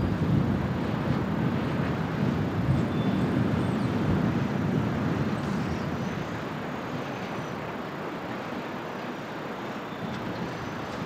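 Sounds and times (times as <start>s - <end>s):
distant port and ship noise: 0.0s - 11.0s
wind: 0.0s - 11.0s.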